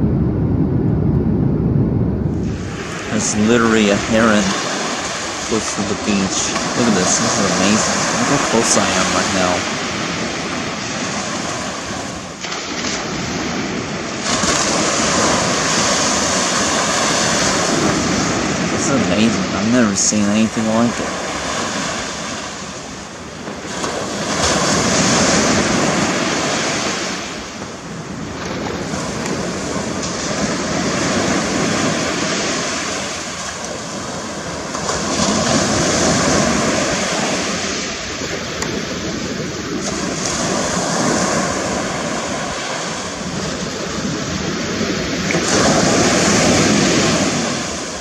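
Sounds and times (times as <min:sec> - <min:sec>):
surf breaking on beach: 0:00.0 - 0:48.0
wind on microphone: 0:00.0 - 0:48.0.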